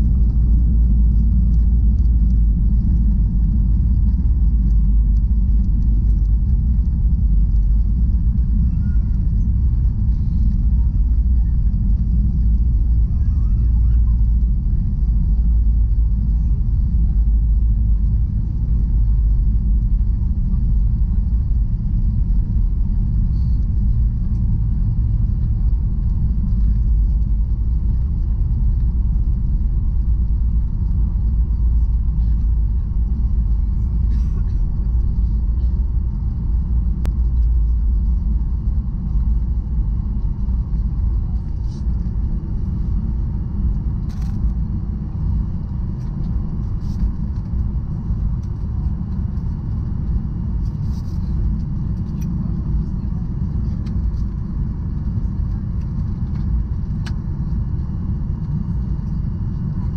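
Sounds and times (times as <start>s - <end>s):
low rumble inside airplane cabin: 0.0s - 59.9s.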